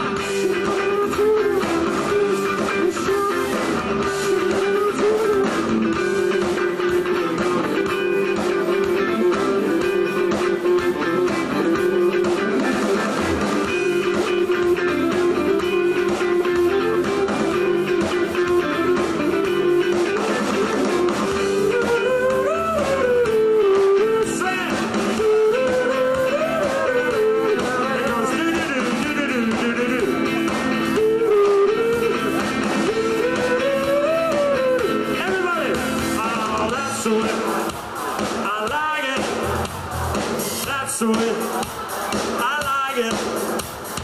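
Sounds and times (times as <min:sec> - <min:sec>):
pitch-bending lead melody: 0:00.0 - 0:38.4
live band with guitar: 0:00.0 - 0:44.0.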